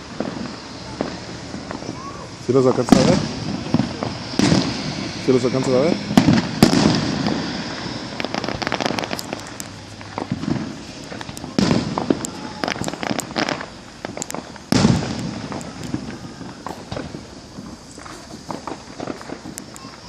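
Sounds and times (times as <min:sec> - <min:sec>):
fireworks booms: 0:00.0 - 0:20.0
fireworks crackling pops: 0:00.0 - 0:20.0.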